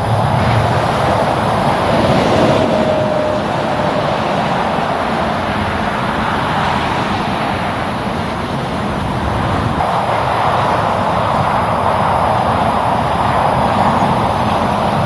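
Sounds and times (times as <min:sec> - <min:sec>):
highway traffic rushing: 0:00.0 - 0:15.0.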